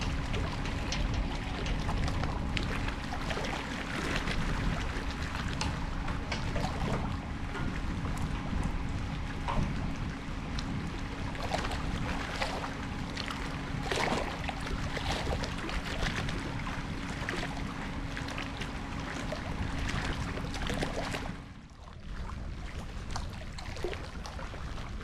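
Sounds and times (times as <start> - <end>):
waves lapping against seawall: 0.0 - 25.0
wind rumbling on microphone: 0.0 - 25.0.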